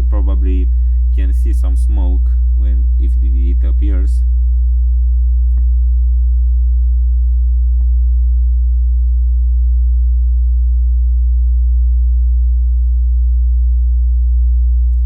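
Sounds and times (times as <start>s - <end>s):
deep sine tone: 0.0s - 15.0s.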